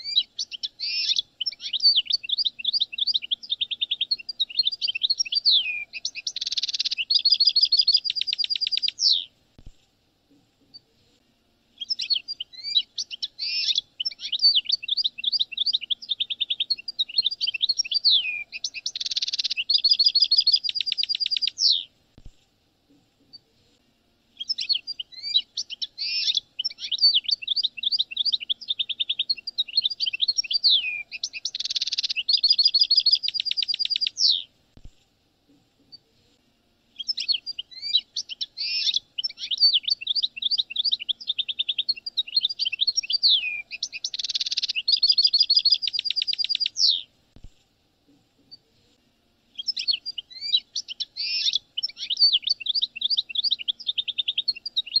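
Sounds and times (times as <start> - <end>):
finch song twittering: 0.0 - 9.3, 11.8 - 21.9, 24.4 - 34.5, 37.0 - 47.1, 49.6 - 55.0.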